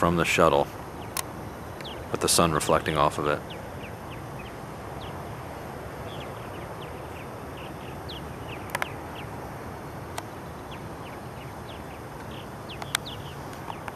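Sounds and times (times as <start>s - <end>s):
birds chirping: 0.0s - 13.9s
steady background hiss: 0.0s - 13.9s.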